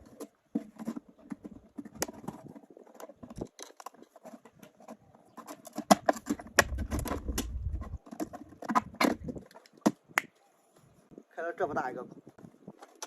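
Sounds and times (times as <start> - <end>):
plastic crackling and scraping: 0.0 - 11.0, 12.2 - 13.0.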